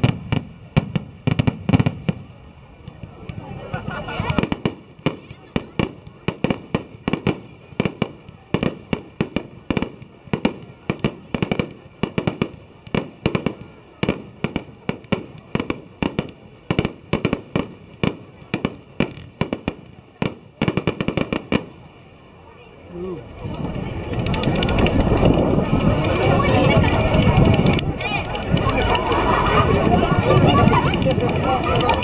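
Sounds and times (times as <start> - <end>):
fireworks bangs: 0.0 - 22.2, 23.3 - 32.0.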